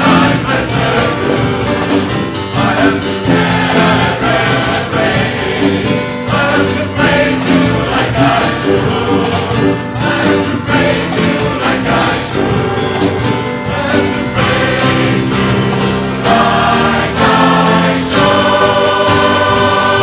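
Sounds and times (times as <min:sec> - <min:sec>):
large choir singing: 0:00.0 - 0:20.0
percussion band drumming: 0:00.0 - 0:20.0.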